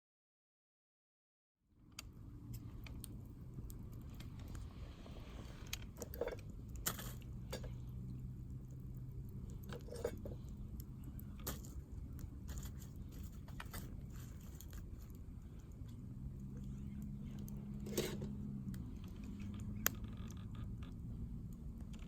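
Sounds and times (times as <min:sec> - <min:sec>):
low steady rumble: 0:01.8 - 0:22.0
wood fire crackling: 0:02.0 - 0:22.0.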